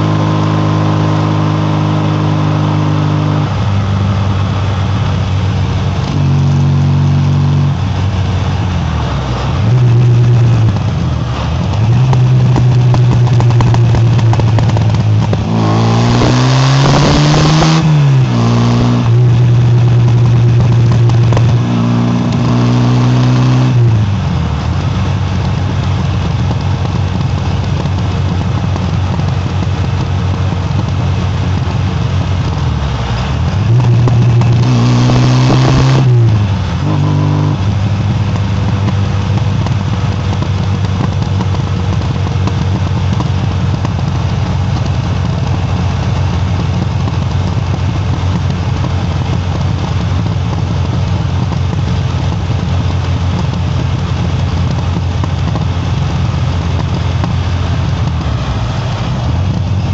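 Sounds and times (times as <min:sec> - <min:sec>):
car engine and exhaust running: 0:00.0 - 0:59.9.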